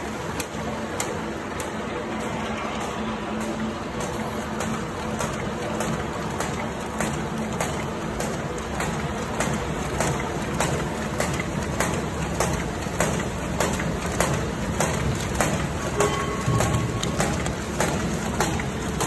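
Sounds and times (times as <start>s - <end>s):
machine mechanical clatter: 0.0s - 19.0s.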